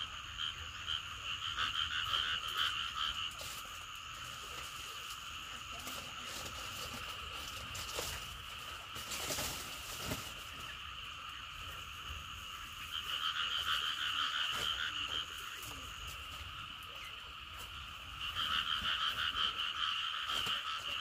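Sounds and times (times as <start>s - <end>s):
frogs calling: 0.0s - 21.0s
dry palm frond rustling: 3.0s - 21.0s.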